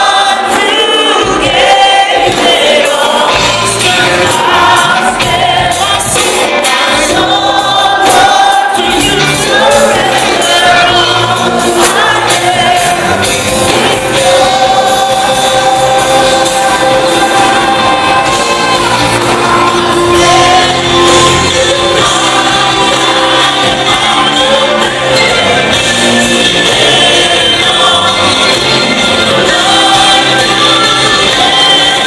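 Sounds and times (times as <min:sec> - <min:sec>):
amplified band: 0:00.0 - 0:32.0
singers singing together: 0:00.0 - 0:32.0.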